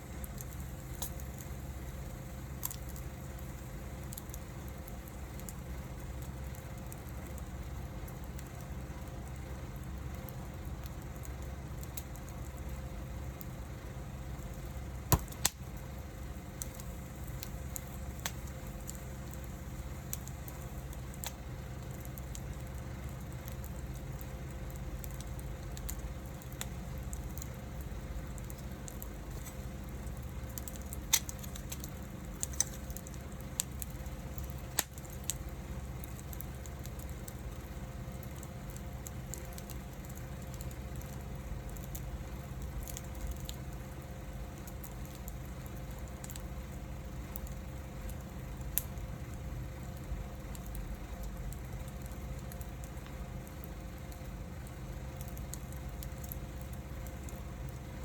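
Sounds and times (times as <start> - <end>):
fire crackling and popping: 0.0 - 58.0
wood fire rumbling: 0.0 - 58.0.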